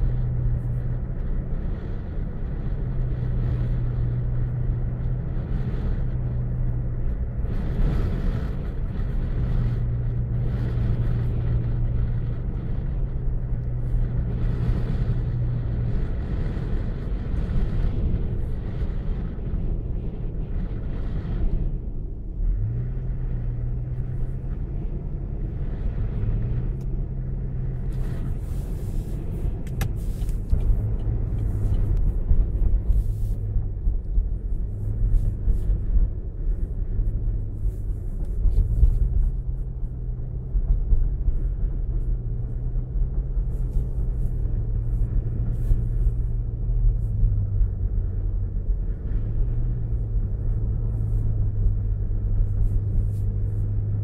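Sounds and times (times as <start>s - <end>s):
car engine hum: 0.0s - 54.0s
road rumble inside car: 0.0s - 54.0s.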